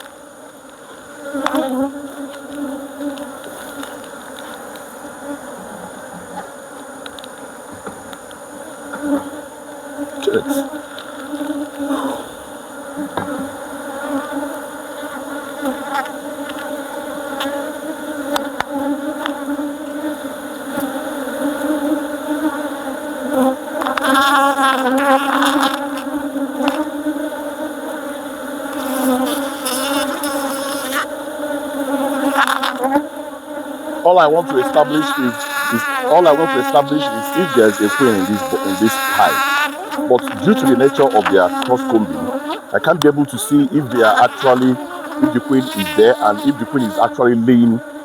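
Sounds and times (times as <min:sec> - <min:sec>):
honeybees buzzing: 0:00.0 - 0:48.0.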